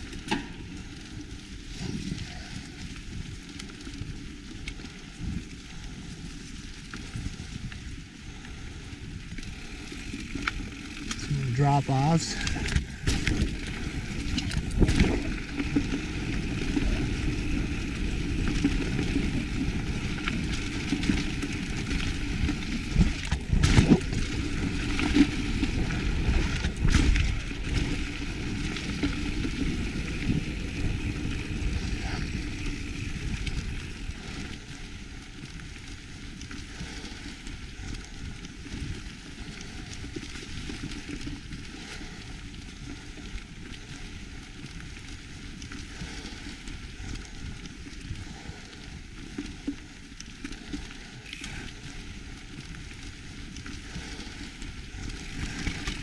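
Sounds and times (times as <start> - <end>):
bike rattling: 0.0 - 56.0
bike tyres crunching on dirt: 0.0 - 56.0.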